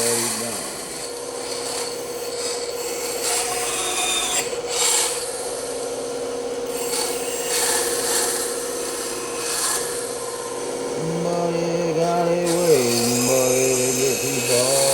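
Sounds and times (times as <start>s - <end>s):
saw blade rasping through wood: 0.0s - 5.8s, 6.7s - 10.5s, 11.2s - 14.9s
bandsaw humming: 0.0s - 14.9s.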